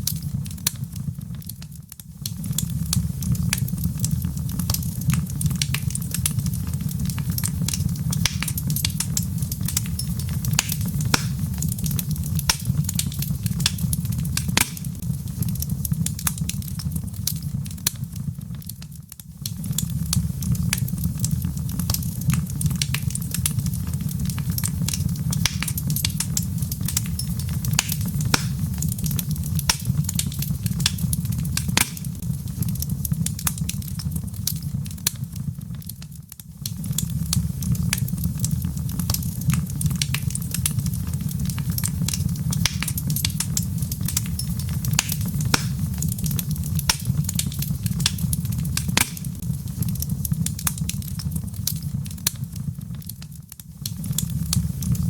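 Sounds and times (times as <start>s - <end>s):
log fire pops and snaps: 0.0s - 55.0s
low rumble of burning wood: 0.0s - 55.0s.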